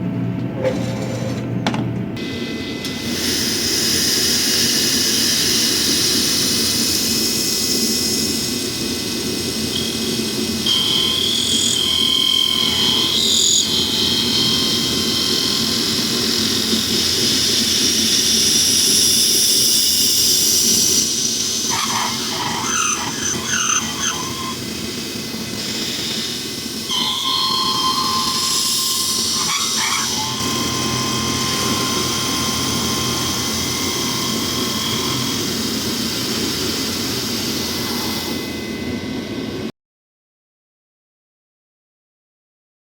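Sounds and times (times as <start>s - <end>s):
milling machine whining: 0.4s - 39.7s.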